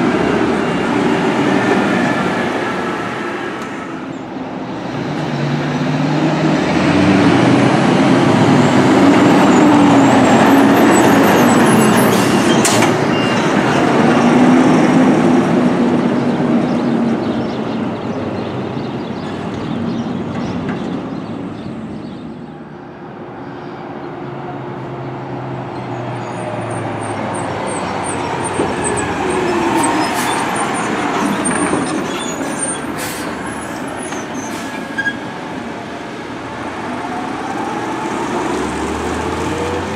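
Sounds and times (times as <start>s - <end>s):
garbage truck engines passing: 0.0s - 39.9s.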